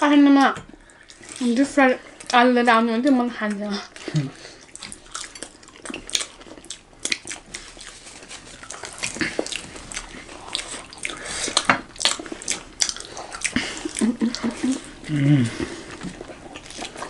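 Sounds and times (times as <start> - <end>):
people biting and chewing food: 3.0 - 17.0.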